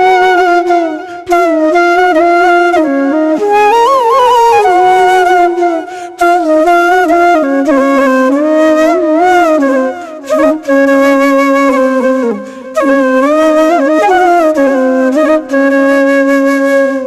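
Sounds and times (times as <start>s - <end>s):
solo flute melody: 0.0s - 17.0s.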